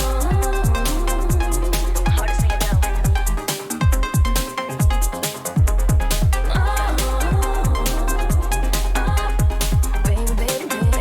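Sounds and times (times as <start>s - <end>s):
kick drum: 0.3s - 11.0s.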